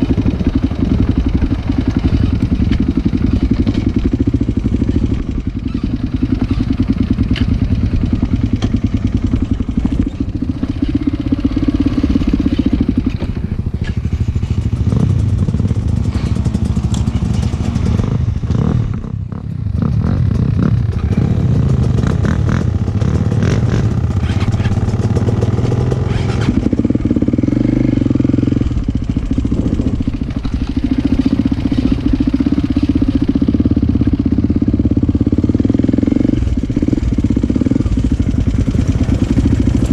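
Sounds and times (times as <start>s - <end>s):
motocross engines running: 0.0s - 39.9s.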